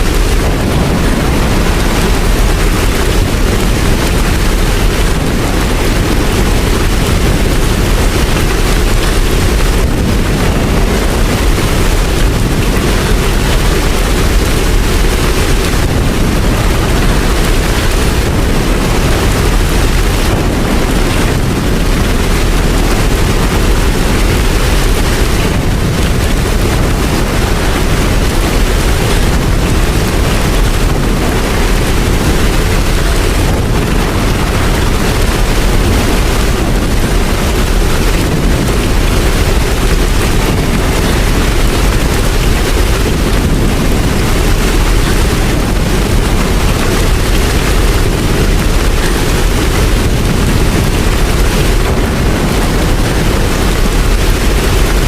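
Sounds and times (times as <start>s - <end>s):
deep rumble: 0.0s - 55.0s
loud rain falling: 0.0s - 55.0s.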